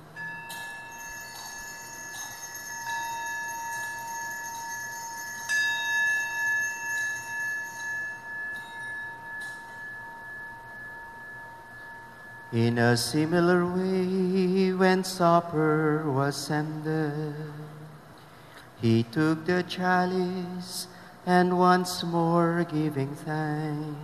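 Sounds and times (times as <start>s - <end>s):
small bells ringing: 0.0s - 24.0s.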